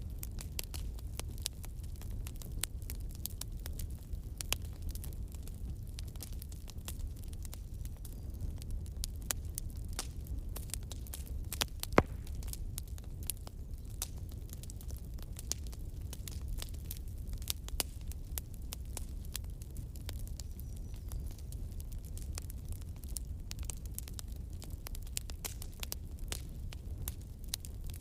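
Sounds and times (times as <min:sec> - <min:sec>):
bonfire crackling: 0:00.0 - 0:28.0.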